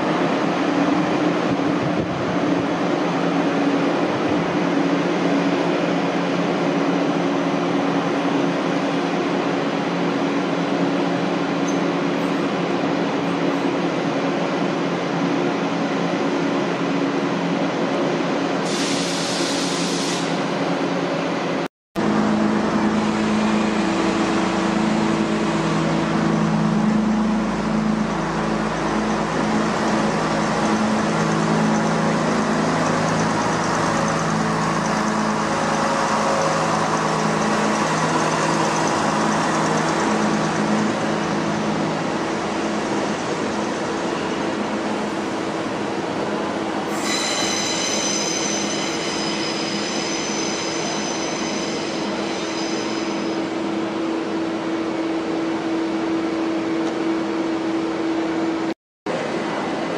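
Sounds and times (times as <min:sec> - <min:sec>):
train droning hum: 0:00.0 - 0:18.8, 0:19.8 - 0:59.9.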